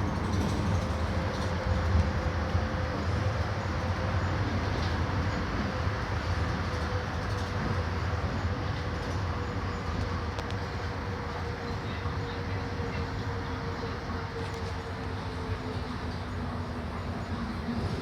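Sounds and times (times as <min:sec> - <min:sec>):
bus engine droning: 0:00.0 - 0:18.0.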